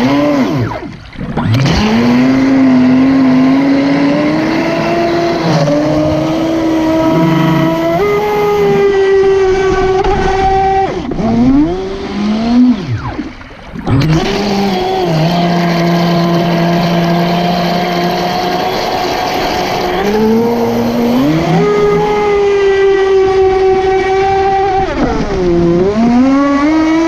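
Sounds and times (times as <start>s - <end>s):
electric motor whining: 0.0s - 26.0s
water rushing and spraying: 0.0s - 27.0s.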